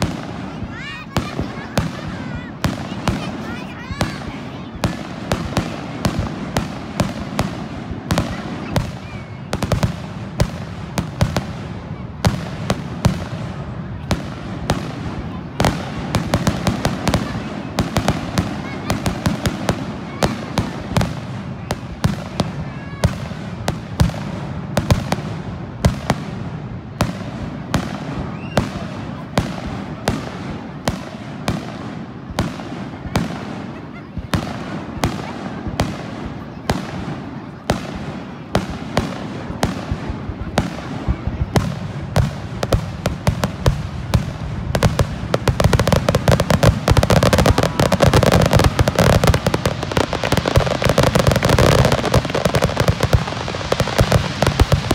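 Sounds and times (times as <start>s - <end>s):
fireworks bursting: 0.0s - 54.9s.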